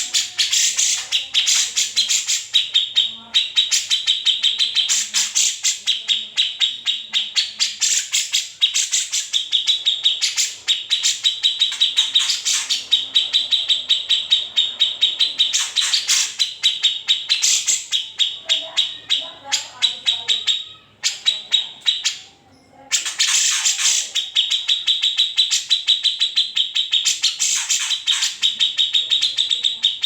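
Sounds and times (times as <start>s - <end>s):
bird chattering trill: 0.0s - 30.0s.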